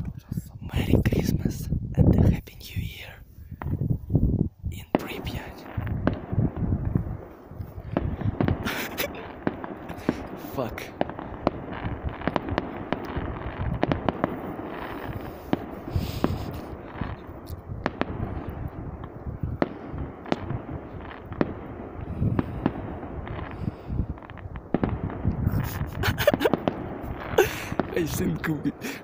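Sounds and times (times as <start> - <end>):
fireworks bangs and cracks: 4.8 - 29.0
fireworks crackle: 4.8 - 29.0.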